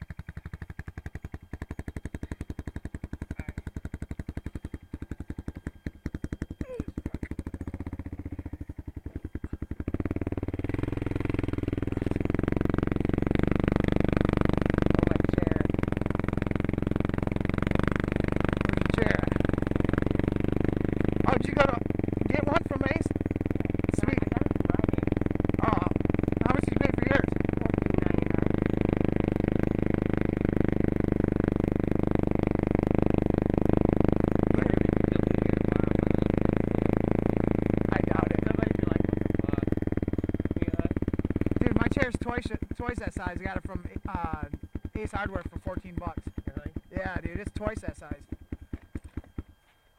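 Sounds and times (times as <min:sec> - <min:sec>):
quad engine idling and revving: 0:00.0 - 0:49.8.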